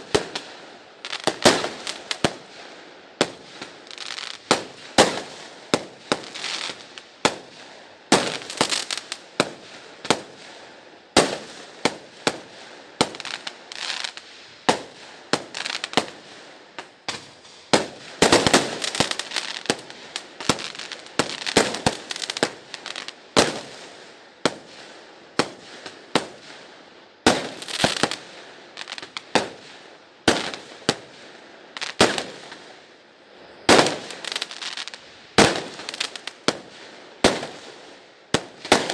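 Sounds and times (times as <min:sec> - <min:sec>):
fireworks bangs and booms: 0:00.0 - 0:38.9
fireworks crackling: 0:00.0 - 0:38.9.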